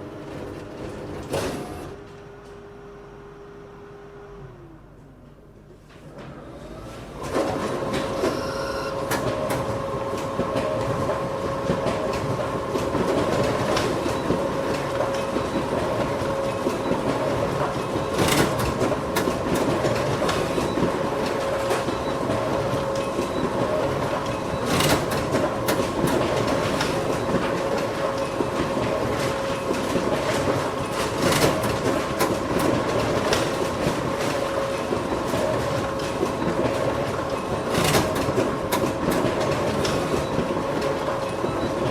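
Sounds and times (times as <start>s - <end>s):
photocopier whirring: 0.0s - 4.8s, 6.2s - 41.9s.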